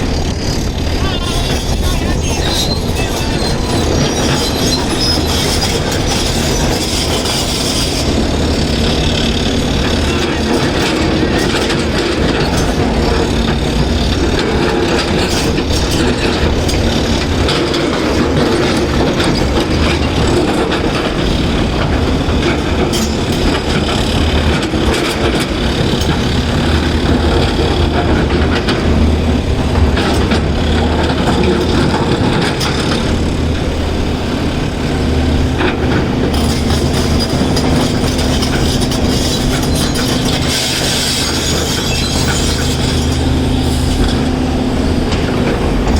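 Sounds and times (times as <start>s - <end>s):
diesel excavator engine running: 0.0s - 45.9s.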